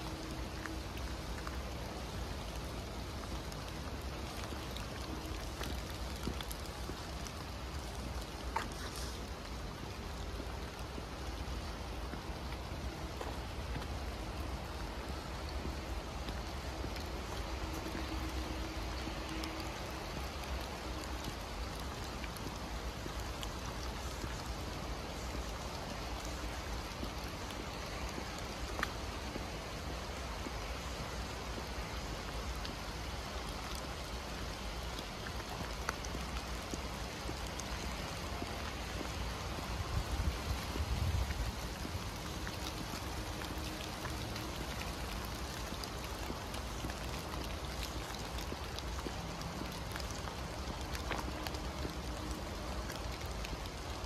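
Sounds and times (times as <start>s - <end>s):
heavy rain in forest: 0.0s - 54.0s.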